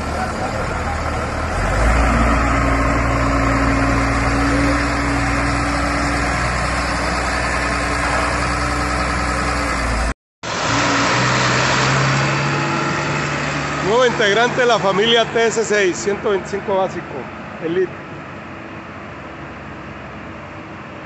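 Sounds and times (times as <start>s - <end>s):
tractor diesel engine driving past: 0.0s - 21.0s.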